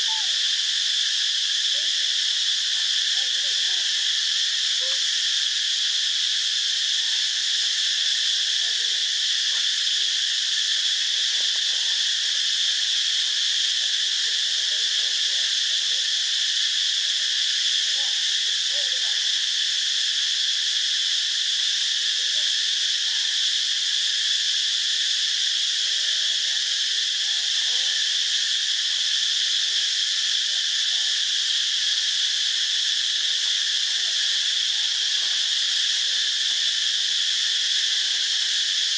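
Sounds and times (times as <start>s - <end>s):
dense insect chorus: 0.0s - 38.9s.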